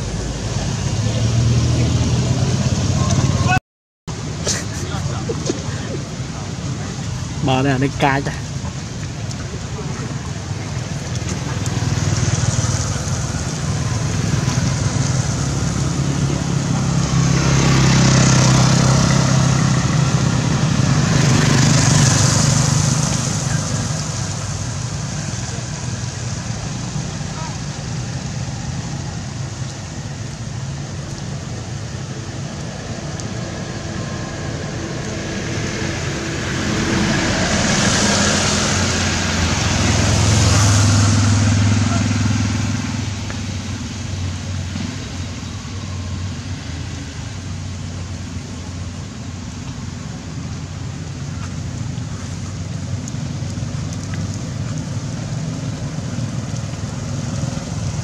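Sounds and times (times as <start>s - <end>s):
vehicle engine humming: 0.0s - 58.0s
tyre hiss on wet road: 4.1s - 58.0s.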